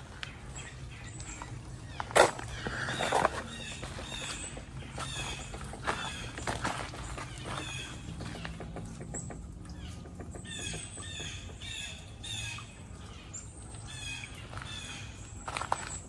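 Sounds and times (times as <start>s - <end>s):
wild birds calling: 0.0s - 16.0s.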